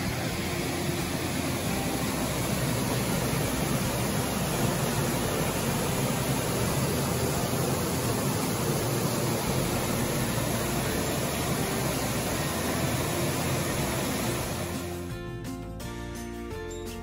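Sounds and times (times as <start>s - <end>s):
water rushing over spillway: 0.0s - 14.9s.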